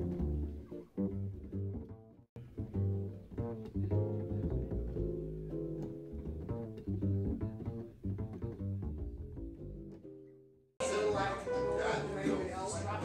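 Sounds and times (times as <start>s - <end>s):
plucked double bass walking line: 0.0s - 12.7s
guitar-like chords: 0.0s - 13.0s.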